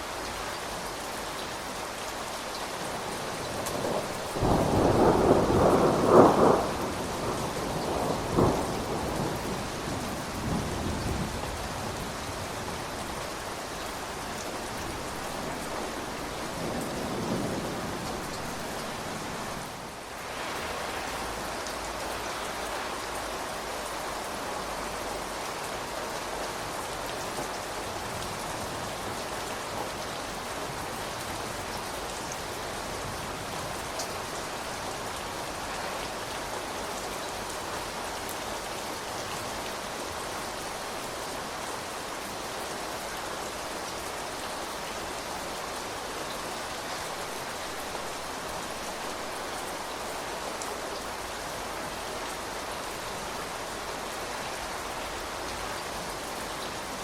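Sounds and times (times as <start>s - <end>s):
rain falling on surfaces: 0.0s - 57.0s.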